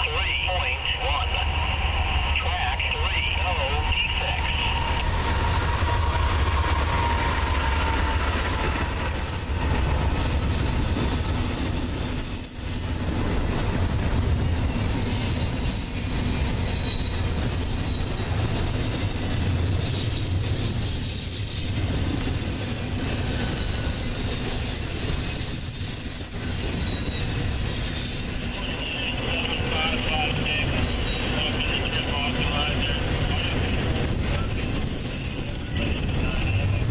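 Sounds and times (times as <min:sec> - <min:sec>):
freight train rumbling past: 0:00.0 - 0:36.9
wheels squealing on rail: 0:03.5 - 0:36.9.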